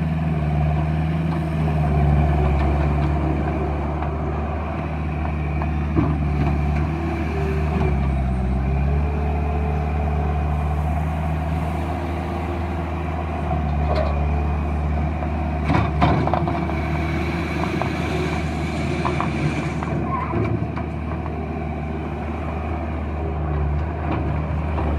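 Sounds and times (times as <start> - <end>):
loader diesel engine running: 0.0 - 24.9.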